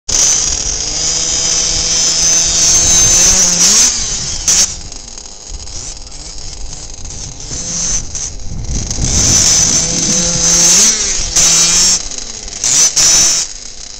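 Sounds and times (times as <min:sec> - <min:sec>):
small two-stroke engine running: 0:00.1 - 0:13.9.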